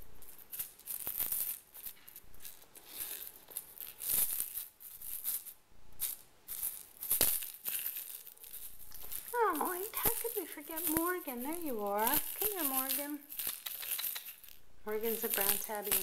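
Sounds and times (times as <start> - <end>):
cat toy ball rattling: 0.4 - 16.0.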